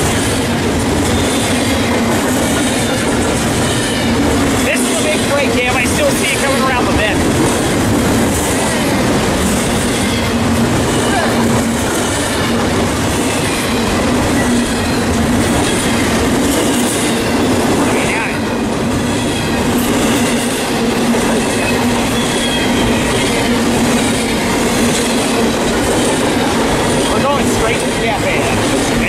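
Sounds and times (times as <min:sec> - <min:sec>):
freight train wheels rumbling on rail: 0:00.0 - 0:29.0.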